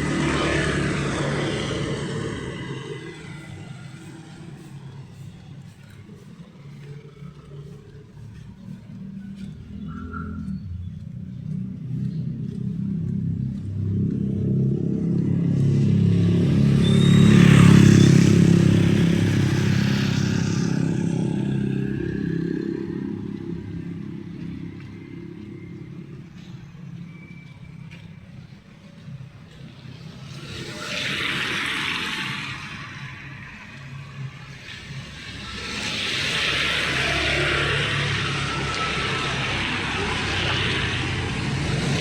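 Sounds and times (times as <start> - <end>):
vehicle driving past: 0.0 - 42.0.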